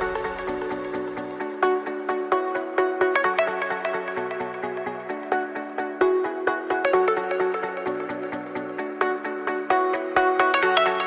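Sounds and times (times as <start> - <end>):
electronic music with beat: 0.0 - 11.0.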